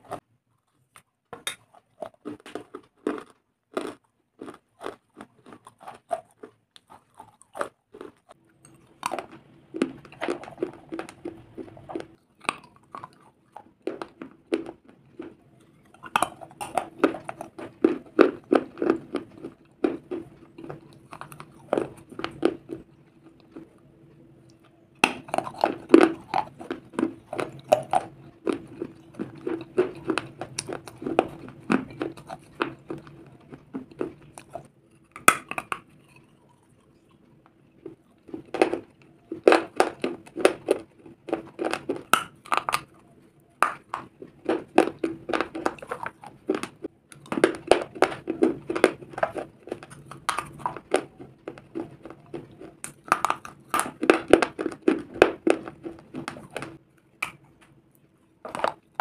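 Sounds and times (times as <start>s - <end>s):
crunching and chewing clay: 0.0s - 59.0s
faint steady hum: 0.0s - 59.0s.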